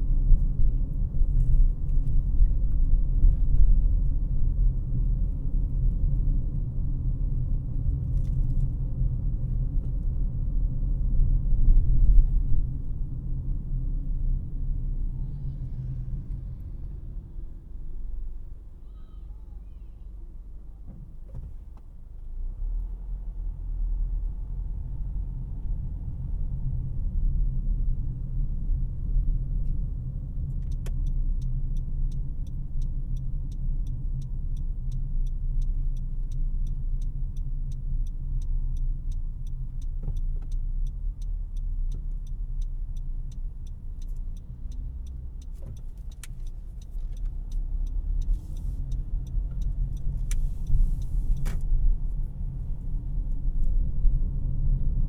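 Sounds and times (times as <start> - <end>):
turn signal ticking: 0.0 - 19.9, 22.9 - 55.0
car road and engine rumble: 0.0 - 55.0.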